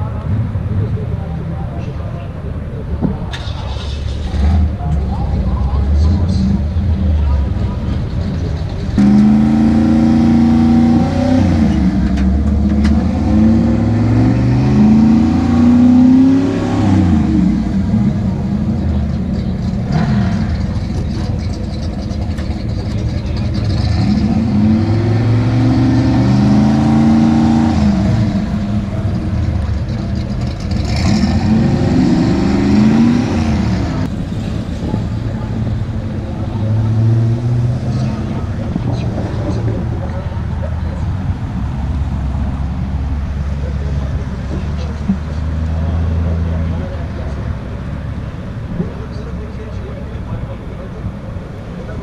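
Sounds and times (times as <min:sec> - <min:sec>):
drag racing car engines accelerating: 0:00.0 - 0:52.0.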